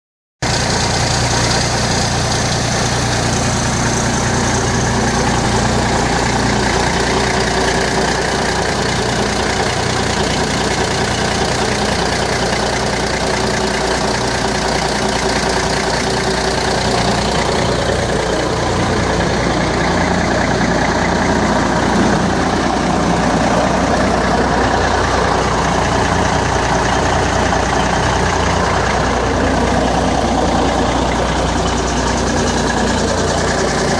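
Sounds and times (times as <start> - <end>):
diesel engine idling: 0.4 - 33.9.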